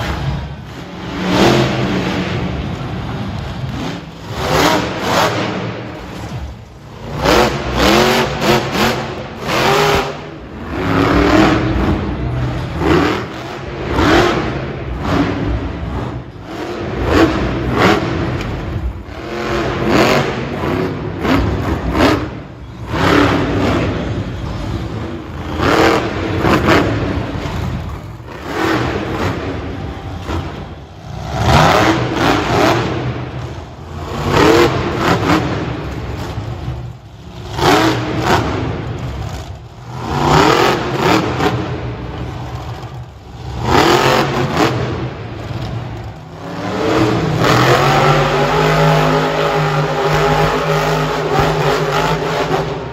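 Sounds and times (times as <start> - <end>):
monster truck engines revving: 0.0 - 52.9.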